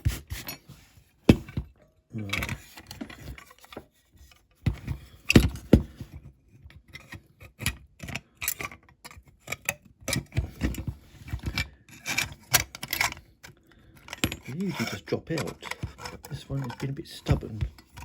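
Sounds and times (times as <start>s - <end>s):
plastic part clicking and scraping: 0.0s - 18.0s.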